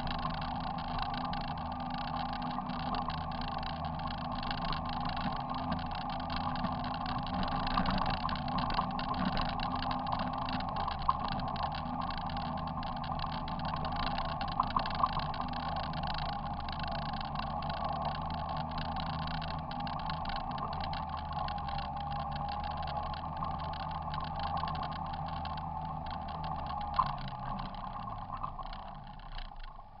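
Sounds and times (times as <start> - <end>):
off-road vehicle engine running: 0.0 - 30.0.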